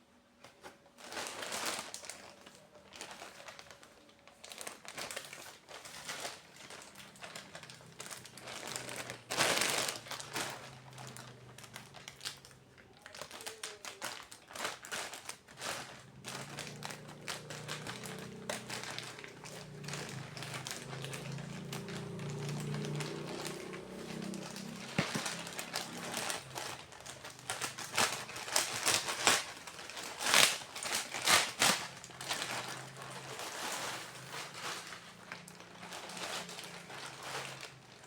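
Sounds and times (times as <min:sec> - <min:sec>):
packaging crinkling and rustling: 0:00.4 - 0:38.0.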